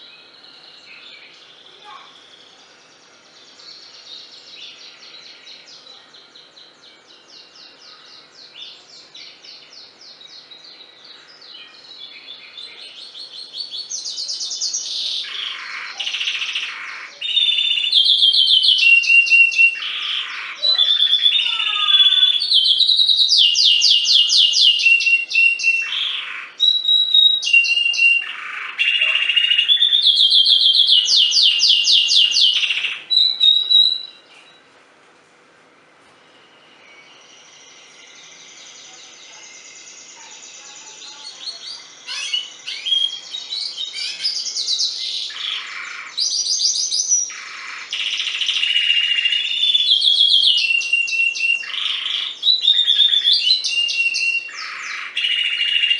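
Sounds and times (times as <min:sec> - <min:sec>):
canary singing trills: 0:00.0 - 0:34.7, 0:36.1 - 0:55.9.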